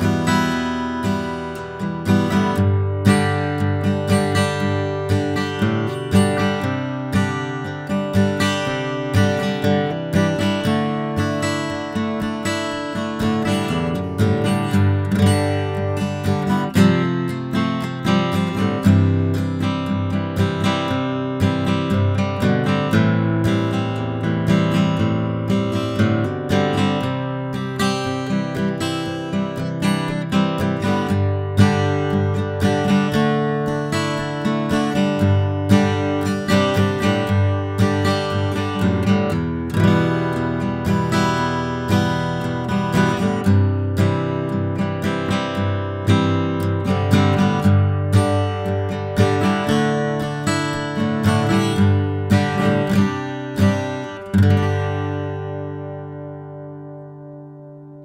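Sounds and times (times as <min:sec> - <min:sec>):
acoustic guitar strummed chords: 0:00.0 - 0:58.0.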